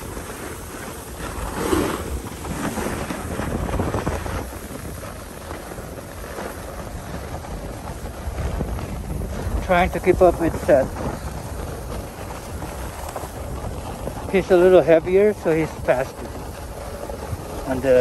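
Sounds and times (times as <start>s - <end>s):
snowboard scraping on snow: 0.0s - 18.0s
wind rushing over microphone: 0.0s - 18.0s.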